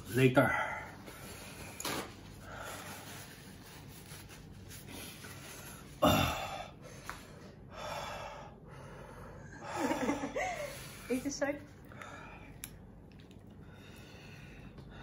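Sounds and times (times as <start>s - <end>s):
man breathing heavily: 0.5s - 3.5s, 4.9s - 12.7s, 13.6s - 15.0s.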